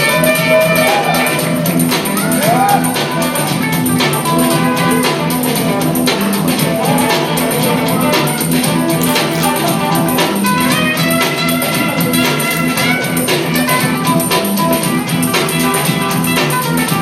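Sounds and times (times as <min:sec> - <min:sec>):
loud dance music: 0:00.0 - 0:17.0.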